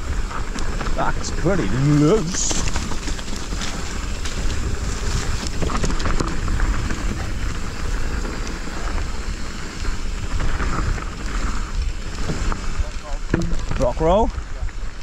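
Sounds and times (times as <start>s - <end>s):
bike rattling clicks and knocks: 0.0s - 15.0s
tyre crunch on dirt: 0.0s - 15.0s
wind rush on microphone: 0.0s - 15.0s.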